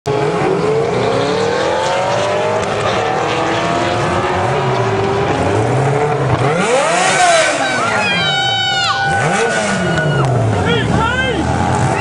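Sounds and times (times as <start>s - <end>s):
motorcycle engine revving high: 0.1s - 12.0s.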